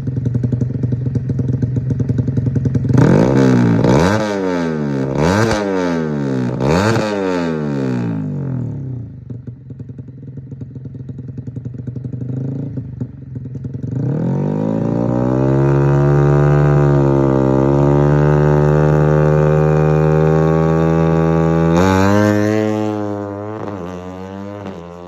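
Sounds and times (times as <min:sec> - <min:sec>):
motorcycle engine revving: 0:00.0 - 0:10.1, 0:10.8 - 0:25.0.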